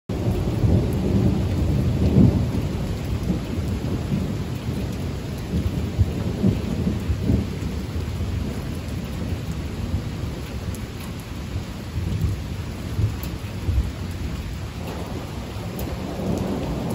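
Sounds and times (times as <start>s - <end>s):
steady rain: 0.1s - 16.9s
thunder rumbling: 0.1s - 16.9s.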